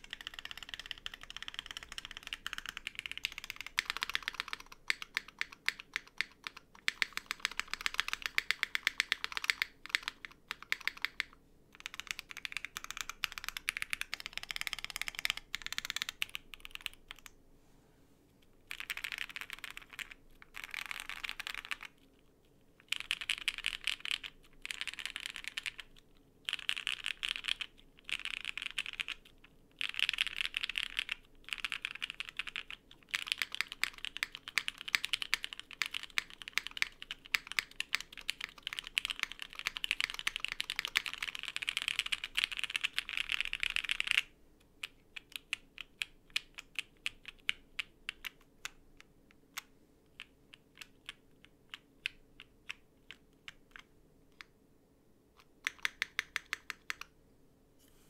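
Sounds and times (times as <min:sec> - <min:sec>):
typing on mechanical keyboard: 0:00.0 - 0:17.3, 0:18.7 - 0:22.0, 0:22.8 - 0:48.8, 0:49.5 - 0:54.5, 0:55.4 - 0:57.1.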